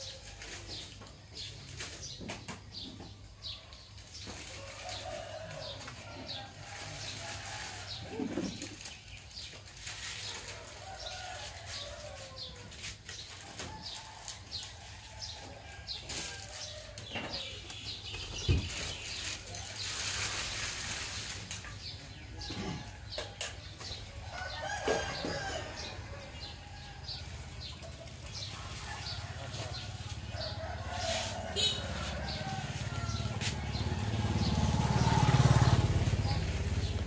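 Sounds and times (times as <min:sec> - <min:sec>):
roosters crowing: 0:04.2 - 0:09.5, 0:10.2 - 0:20.1, 0:21.8 - 0:37.0.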